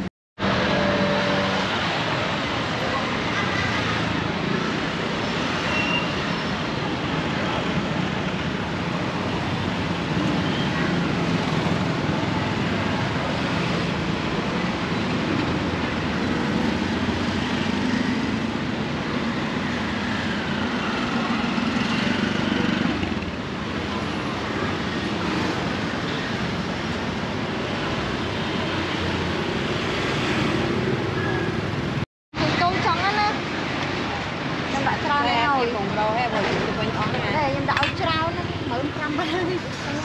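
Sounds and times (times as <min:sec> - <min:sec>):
road traffic passing: 0:00.0 - 0:40.0.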